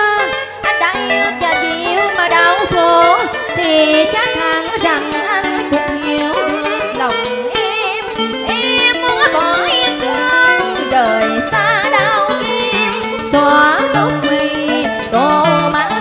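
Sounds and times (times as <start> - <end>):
instrumental accompaniment: 0.0 - 16.0
woman singing with vibrato: 0.0 - 16.0.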